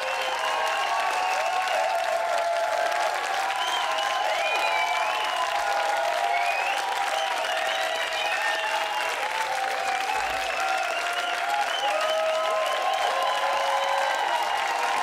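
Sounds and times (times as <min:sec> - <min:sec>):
audience applauding: 0:00.0 - 0:15.0
crowd cheering and calling out: 0:00.0 - 0:15.0.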